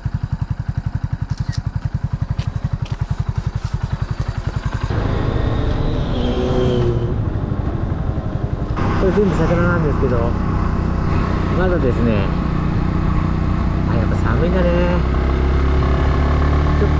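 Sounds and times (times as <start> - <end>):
motorcycle engine idling: 0.0 - 5.8, 6.9 - 16.9
rough engine noise: 0.0 - 16.9.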